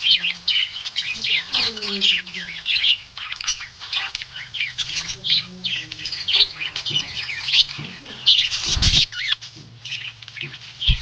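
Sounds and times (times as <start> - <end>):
budgies chirping: 0.0 - 11.0.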